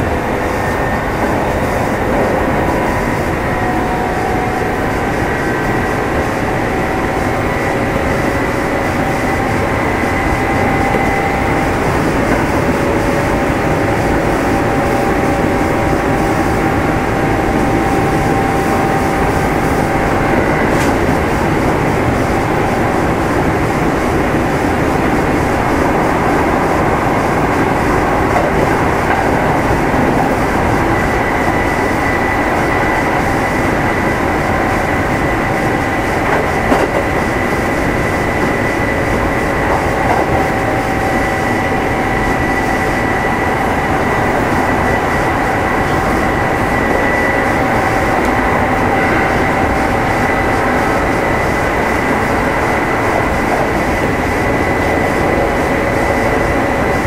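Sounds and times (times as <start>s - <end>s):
traction motor whine: 0.0s - 57.0s
train wheels rumbling on rail: 0.0s - 57.0s.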